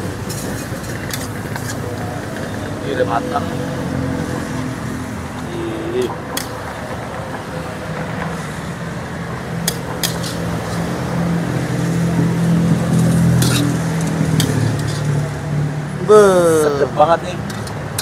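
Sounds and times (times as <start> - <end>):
road traffic noise: 0.0 - 18.0
vehicle engine hum: 0.0 - 18.0.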